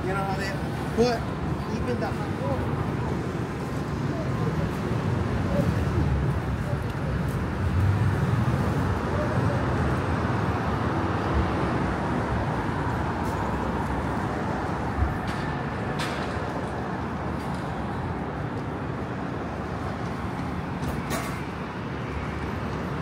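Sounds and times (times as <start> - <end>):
passing vehicles rumble: 0.0 - 23.0.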